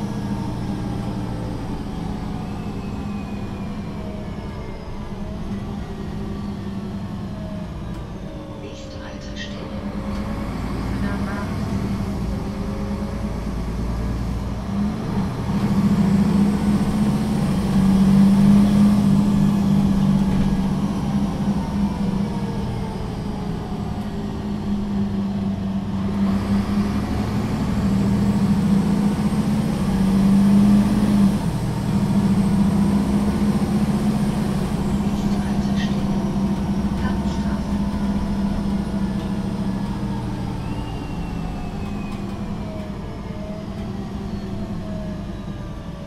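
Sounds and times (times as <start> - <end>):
bus diesel engine accelerating: 0.0 - 46.0.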